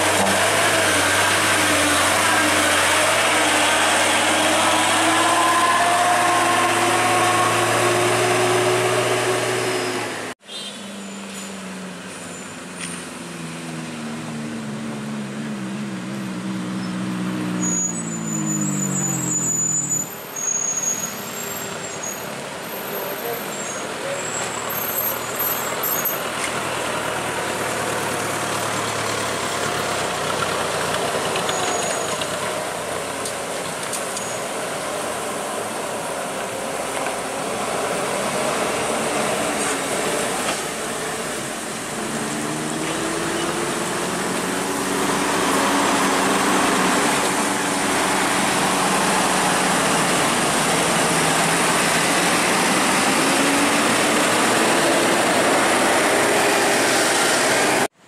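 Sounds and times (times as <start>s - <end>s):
diesel coach engine labouring: 0.0s - 10.4s, 11.6s - 58.0s.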